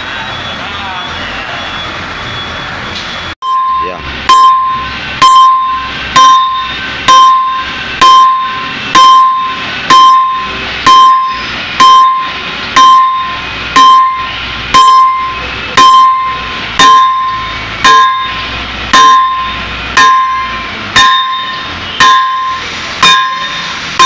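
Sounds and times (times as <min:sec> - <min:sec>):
hammer striking steel: 0:03.4 - 0:24.0.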